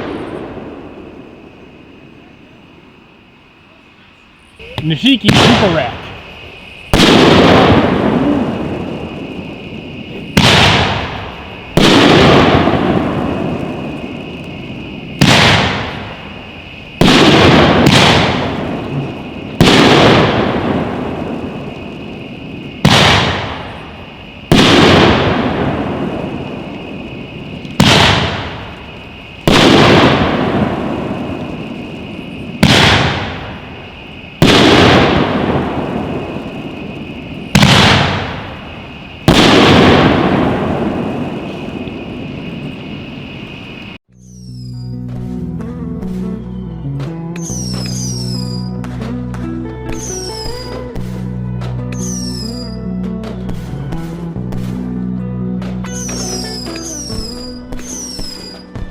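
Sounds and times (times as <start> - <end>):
firework shells bursting: 0.0 - 3.2, 4.4 - 44.7, 47.4 - 54.8, 55.6 - 58.9.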